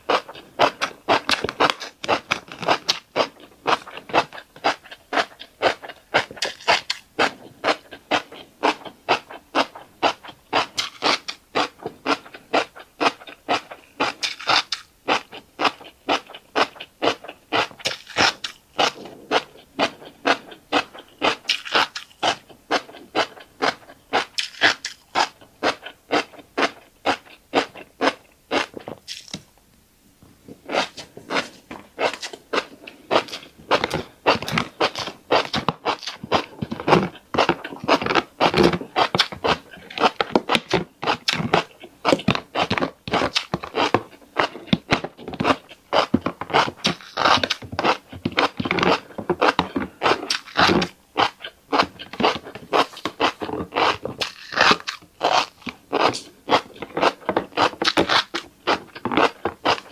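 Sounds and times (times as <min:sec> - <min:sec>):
crunchy chewing of seeds: 0:00.0 - 0:29.6, 0:30.4 - 0:59.9.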